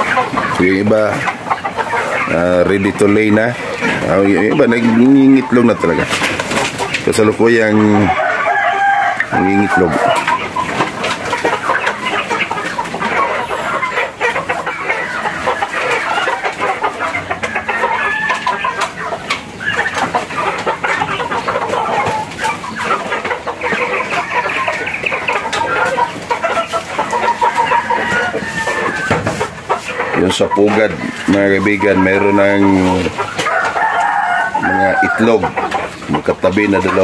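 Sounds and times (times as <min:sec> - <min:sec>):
chickens clucking and squawking: 0:00.0 - 0:37.0.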